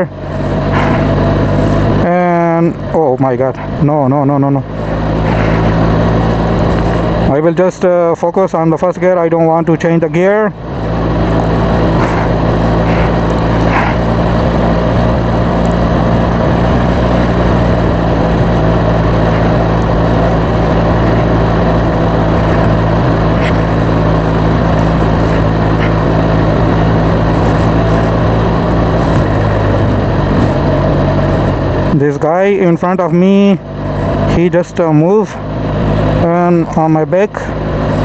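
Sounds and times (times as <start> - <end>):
motorcycle engine running steadily: 0.0 - 38.0
wind and road noise: 0.0 - 38.0.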